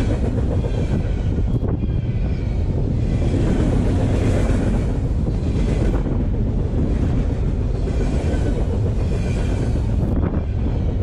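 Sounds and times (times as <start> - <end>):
freight train wheels rumbling on rails: 0.0 - 11.0
wind buffeting the microphone: 0.0 - 11.0.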